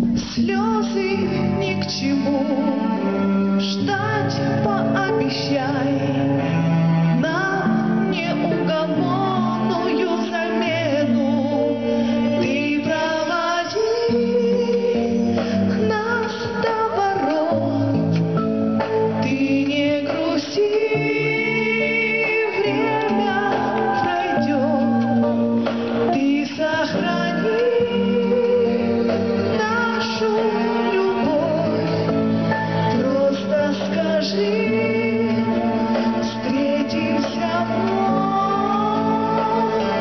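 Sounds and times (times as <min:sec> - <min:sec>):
sustained instrumental backing track: 0:00.0 - 0:40.0
woman singing pop song: 0:00.0 - 0:40.0.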